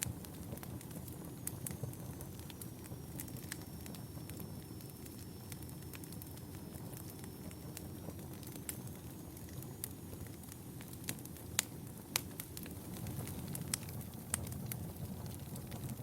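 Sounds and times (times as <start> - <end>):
fire crackles and pops: 0.0 - 16.0
wood fire burning: 0.0 - 16.0.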